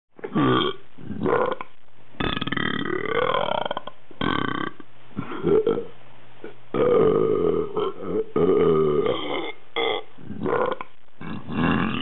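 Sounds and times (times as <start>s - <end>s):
person burping: 0.2s - 12.0s.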